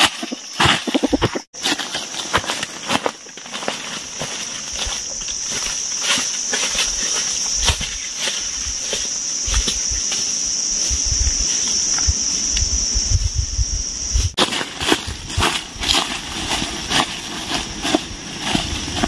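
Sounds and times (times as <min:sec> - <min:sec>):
footsteps on dry leaf litter: 0:00.0 - 0:12.0, 0:14.3 - 0:19.0
high-pitched insect drone: 0:00.0 - 0:19.0.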